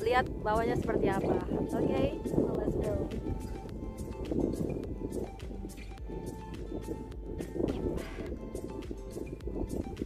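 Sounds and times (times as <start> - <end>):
music with held notes: 1.5 - 10.0.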